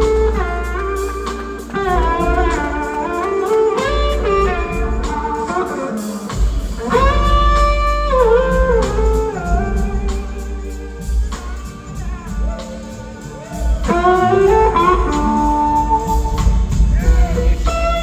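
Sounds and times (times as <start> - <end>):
bass: 0.0 - 18.0
drums: 0.0 - 18.0
lead electric guitar: 0.0 - 18.0.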